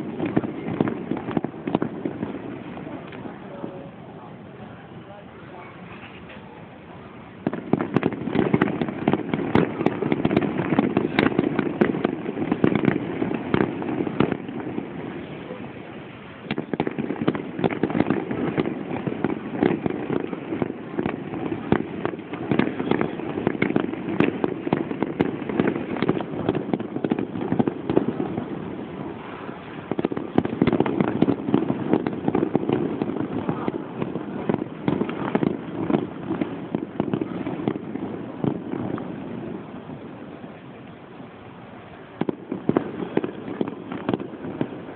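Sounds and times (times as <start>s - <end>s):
fireworks bursts and crackles: 0.0s - 44.9s.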